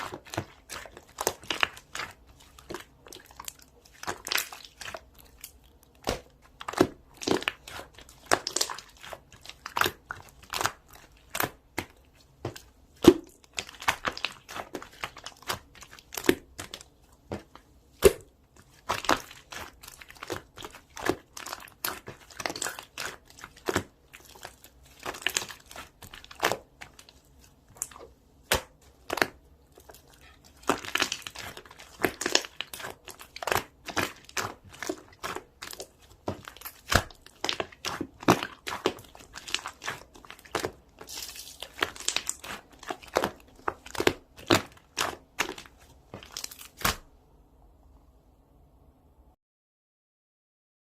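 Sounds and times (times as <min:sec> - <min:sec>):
crinkling and crackling: 0:00.0 - 0:47.1.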